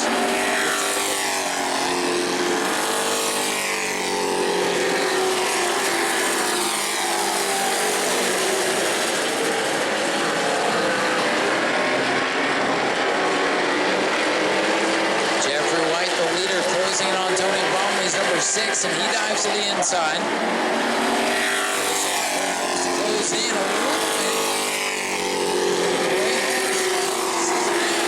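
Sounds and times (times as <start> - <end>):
racing truck engines passing: 0.0 - 28.0.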